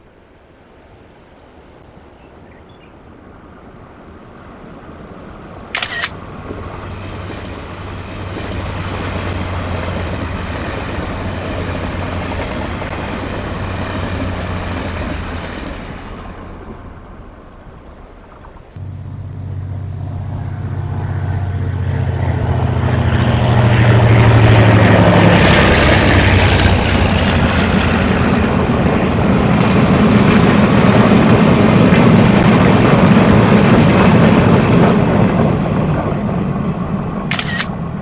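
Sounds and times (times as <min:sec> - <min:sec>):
diesel locomotive engine drone: 0:00.0 - 0:38.0
wagons rumbling on rails: 0:00.0 - 0:38.0.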